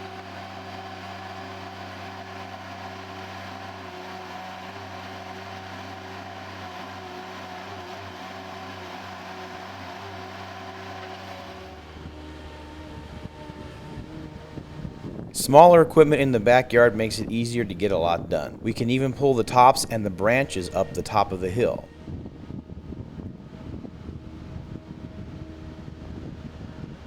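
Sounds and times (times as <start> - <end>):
loader engine running: 0.0 - 27.0.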